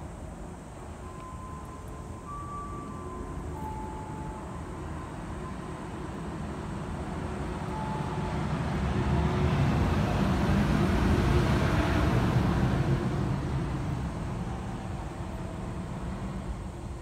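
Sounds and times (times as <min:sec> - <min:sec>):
road vehicle passing: 0:01.0 - 0:17.0.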